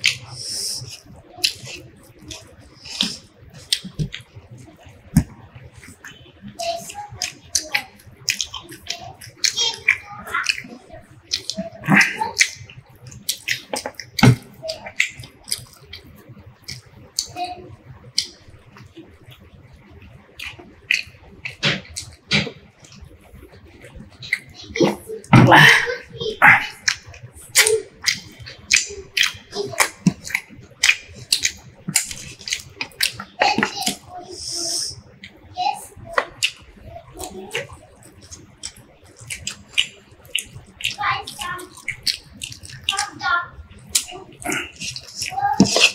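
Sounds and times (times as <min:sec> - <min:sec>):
wet chewing: 0:00.0 - 0:17.4, 0:18.0 - 0:45.9
fingers squishing food: 0:00.0 - 0:19.5, 0:20.2 - 0:45.9.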